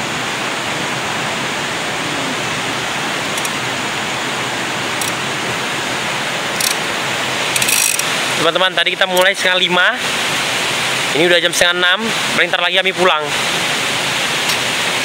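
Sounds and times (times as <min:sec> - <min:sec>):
river rushing over rocks: 0:00.0 - 0:15.0.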